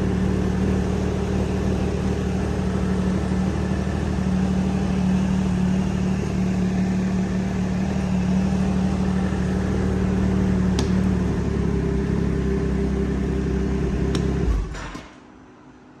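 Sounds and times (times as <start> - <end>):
snowmobile engine idling: 0.0 - 14.7.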